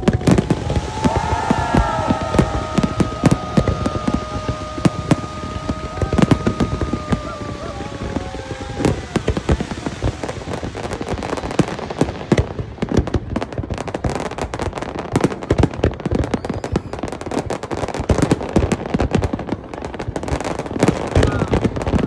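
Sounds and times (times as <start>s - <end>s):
fireworks cracking and banging: 0.0s - 22.0s.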